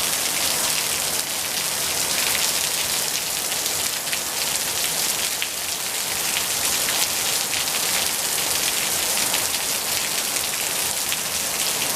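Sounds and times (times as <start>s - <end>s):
rain falling: 0.0s - 11.9s.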